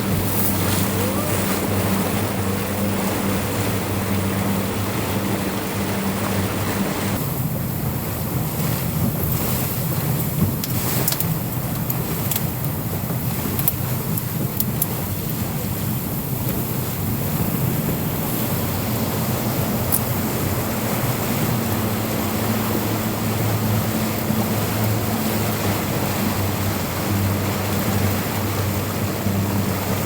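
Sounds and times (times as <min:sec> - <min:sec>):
boat engine humming: 0:00.0 - 0:30.0
rushing water: 0:00.0 - 0:30.0
wind noise: 0:00.0 - 0:30.0.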